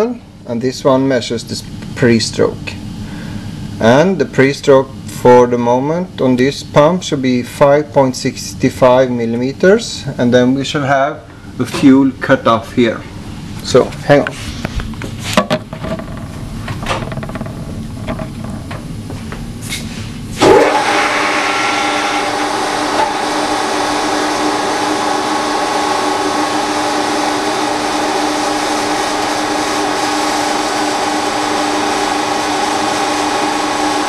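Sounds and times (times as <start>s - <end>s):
test bench machine hum and whine: 0.0s - 34.0s.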